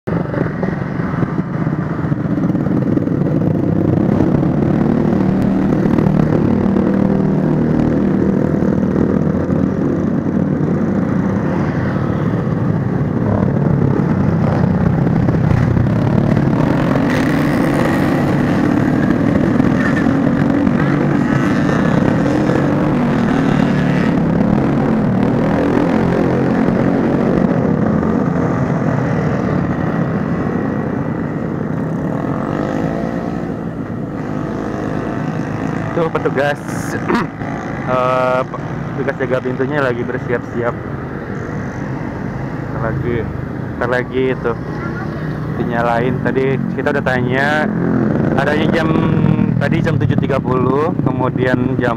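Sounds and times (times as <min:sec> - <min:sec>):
motorcycles and cars passing: 0:00.1 - 0:51.9.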